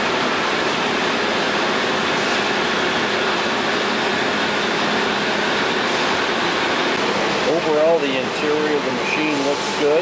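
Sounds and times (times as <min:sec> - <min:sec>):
machine shop rushing hum: 0:00.0 - 0:10.0.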